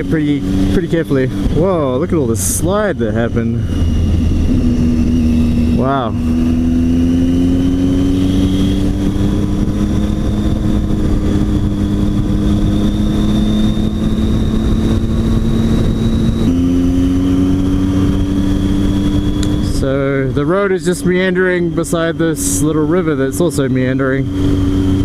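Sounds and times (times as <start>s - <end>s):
motorcycle engine running: 0.0s - 25.0s
wind rush: 0.0s - 25.0s.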